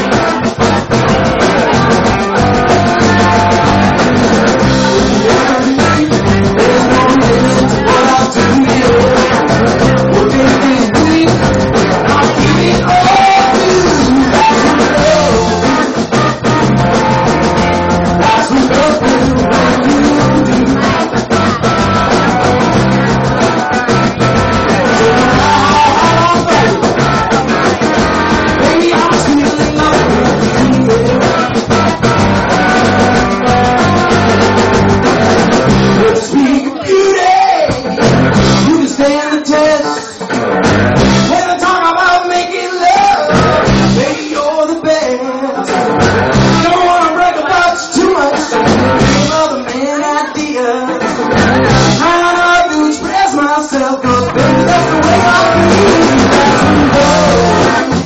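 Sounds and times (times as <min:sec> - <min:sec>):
person singing: 0:00.0 - 0:34.6, 0:35.4 - 0:58.0
bass guitar: 0:00.0 - 0:58.0
drum kit: 0:00.0 - 0:58.0
electric guitar: 0:00.0 - 0:58.0.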